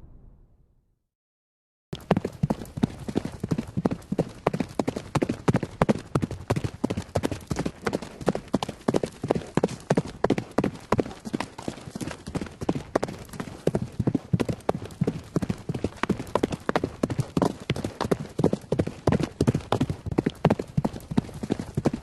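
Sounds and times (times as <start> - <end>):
horse hoofbeats galloping: 2.0 - 22.0.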